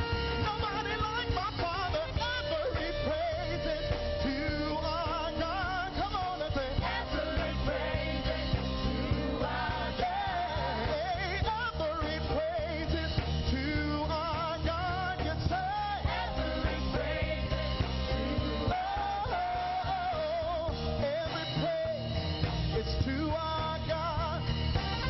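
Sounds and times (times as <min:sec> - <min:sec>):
drums and bass beat: 0:00.0 - 0:25.0
gospel singers with vibrato: 0:00.0 - 0:25.0.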